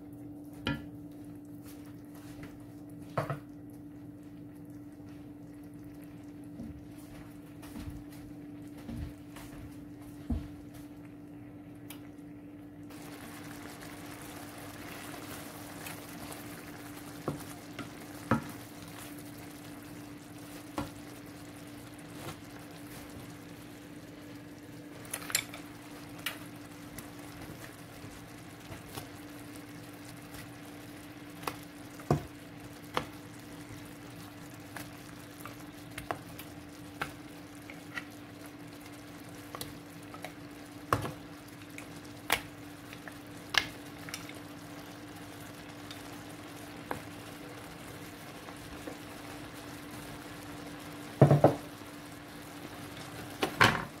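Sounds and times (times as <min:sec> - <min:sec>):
sauce simmering and sizzling: 0:00.0 - 0:54.0.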